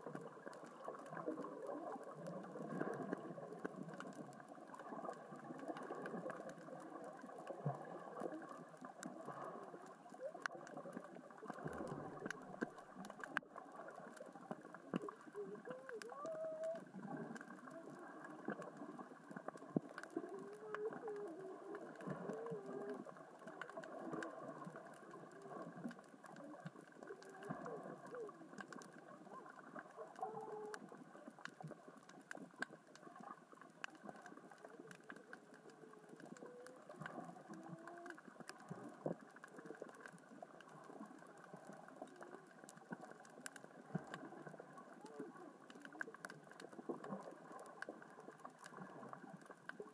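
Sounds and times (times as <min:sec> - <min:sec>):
small rocks rolling underwater: 0:00.0 - 0:49.9.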